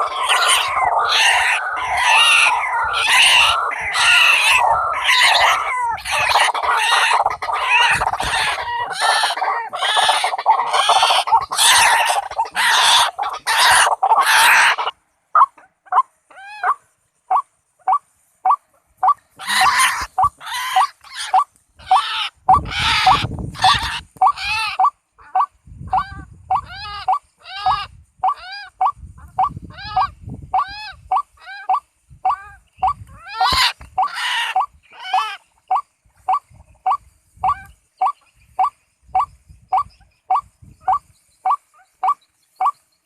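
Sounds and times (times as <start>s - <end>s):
waterhen calls: 0.0s - 42.8s.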